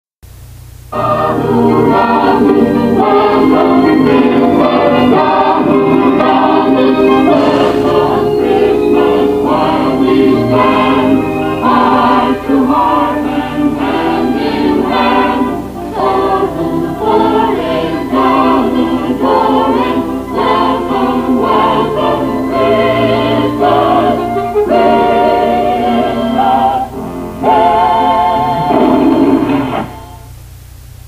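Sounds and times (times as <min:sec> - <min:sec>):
choir singing with accompaniment: 0:00.9 - 0:30.3.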